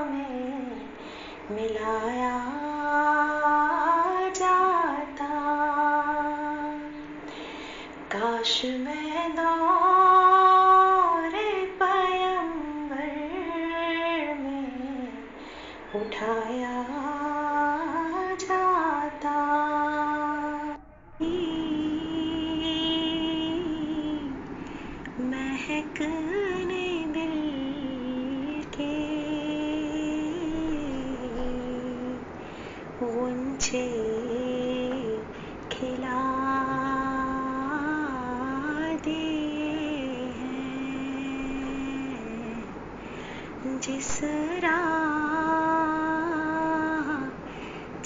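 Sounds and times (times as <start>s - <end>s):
woman singing unaccompanied: 0.0s - 48.0s.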